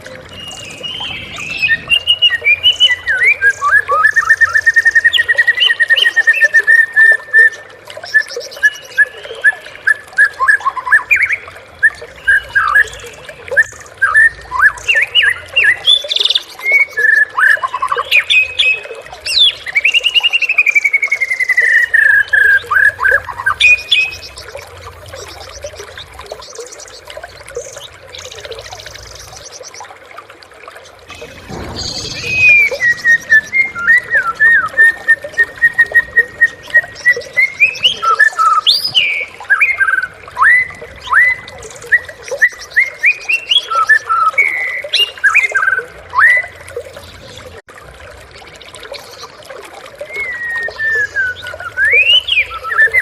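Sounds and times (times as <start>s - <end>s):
songbird singing trills and whistles: 0.3s - 29.9s, 31.1s - 47.1s, 50.0s - 53.0s.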